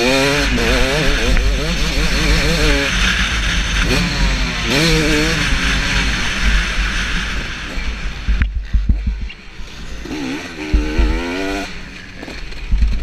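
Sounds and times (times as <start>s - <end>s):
motocross engine revving: 0.0s - 8.3s, 9.6s - 13.0s.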